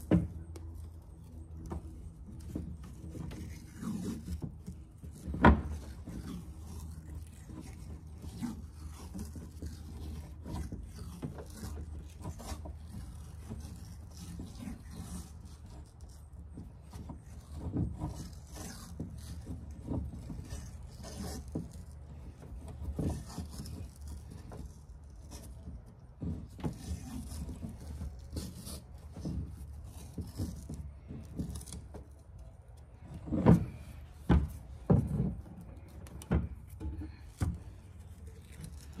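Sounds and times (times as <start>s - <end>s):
tape rustling and rubbing: 0.0s - 39.0s.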